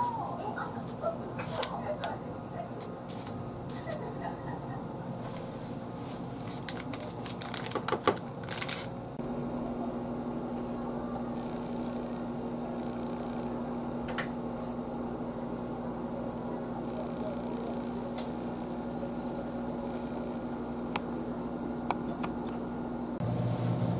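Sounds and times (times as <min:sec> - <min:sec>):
microwave oven humming: 0:00.0 - 0:23.9.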